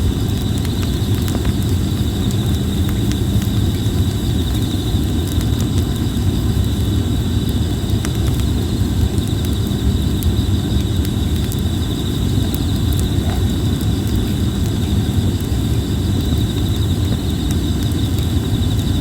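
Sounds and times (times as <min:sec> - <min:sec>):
campfire crackling: 0:00.0 - 0:19.0
high-pitched insect trill: 0:00.0 - 0:19.0.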